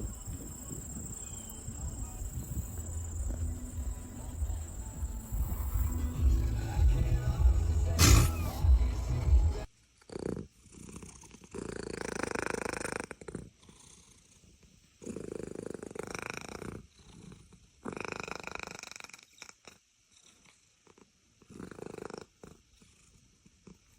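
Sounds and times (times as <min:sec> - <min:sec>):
cat purring: 0:00.0 - 0:23.9.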